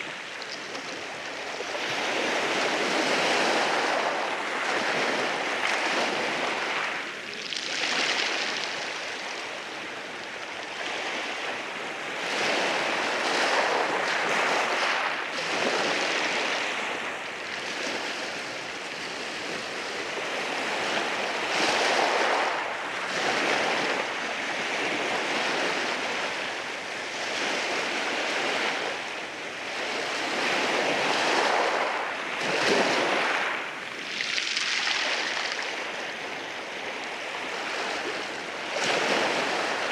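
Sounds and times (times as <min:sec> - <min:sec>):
sea waves washing over rocks: 0:00.0 - 0:39.9.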